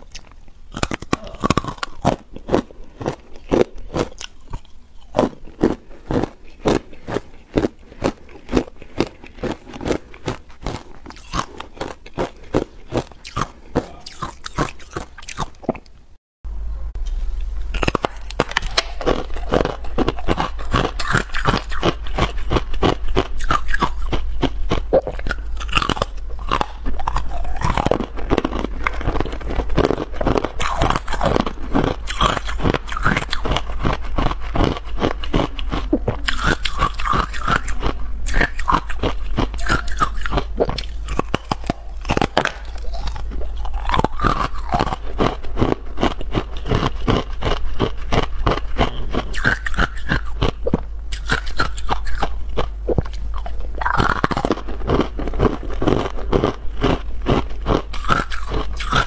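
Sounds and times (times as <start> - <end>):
crunching ice with teeth: 0.0 - 15.8, 17.8 - 59.0
steady low hum: 0.0 - 59.0.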